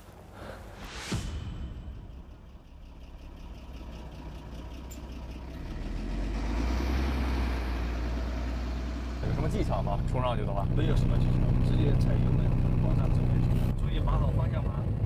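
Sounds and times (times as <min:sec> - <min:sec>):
heavy truck engine running: 0:01.5 - 0:15.0.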